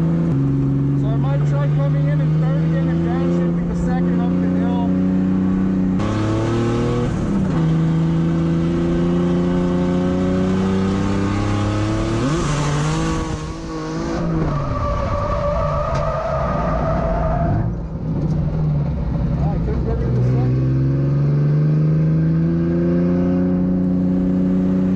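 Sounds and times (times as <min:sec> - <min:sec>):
car engine at high revs: 0:00.0 - 0:24.9.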